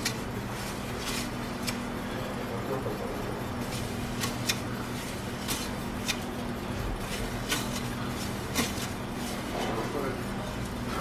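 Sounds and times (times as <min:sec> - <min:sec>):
meat slicer humming: 0:00.0 - 0:11.0.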